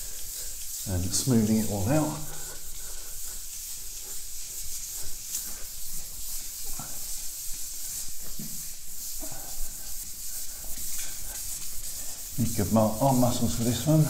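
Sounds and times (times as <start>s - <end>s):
sandpaper rubbing on plaster: 0.0s - 14.0s.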